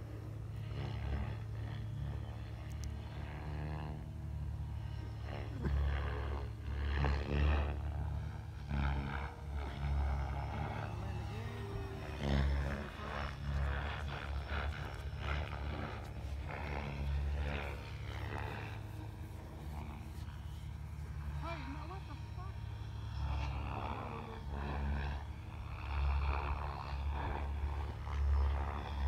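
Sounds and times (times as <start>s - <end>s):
distant model plane motor: 0.0s - 29.0s.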